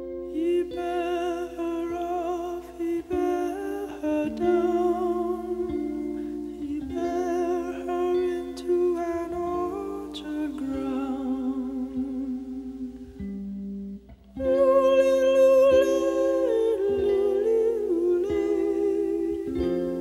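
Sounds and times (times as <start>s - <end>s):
wordless humming melody: 0.0s - 20.0s.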